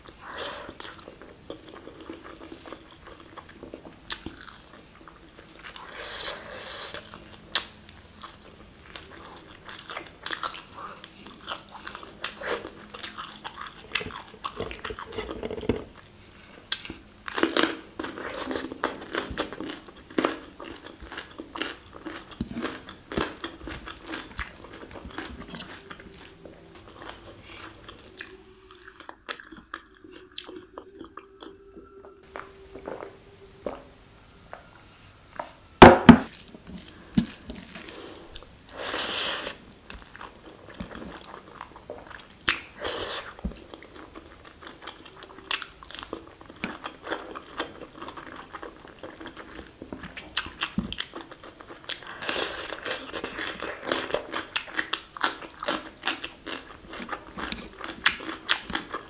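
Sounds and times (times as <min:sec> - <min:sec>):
person chewing: 0:00.0 - 0:33.8, 0:35.4 - 0:59.0.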